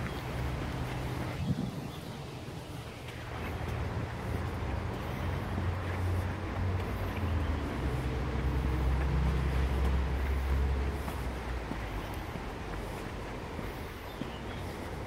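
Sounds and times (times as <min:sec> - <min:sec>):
distant vehicle engine rumble: 0:00.0 - 0:15.0.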